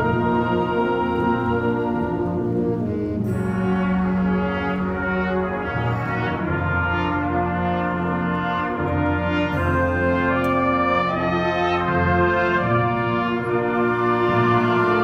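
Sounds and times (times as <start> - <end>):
wind band playing chords: 0.0 - 15.0.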